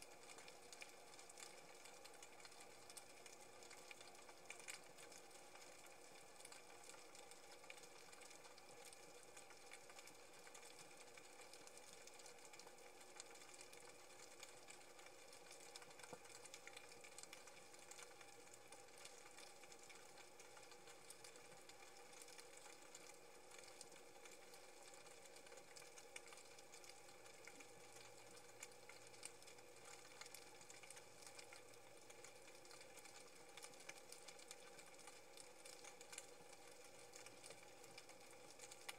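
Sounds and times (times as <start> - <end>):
fine crackling underwater: 0.0 - 38.9.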